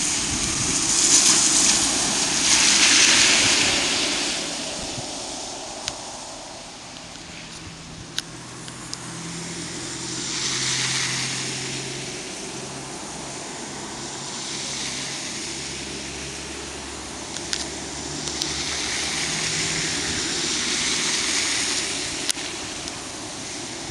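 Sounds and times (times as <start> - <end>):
engine hum: 0.0 - 23.9
tyre and road hiss: 0.0 - 23.9.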